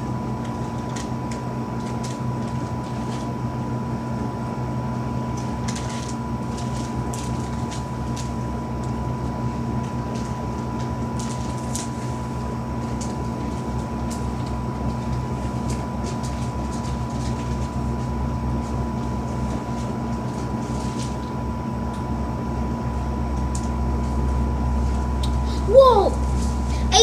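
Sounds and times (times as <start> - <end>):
constant high hum: 0.0 - 27.0.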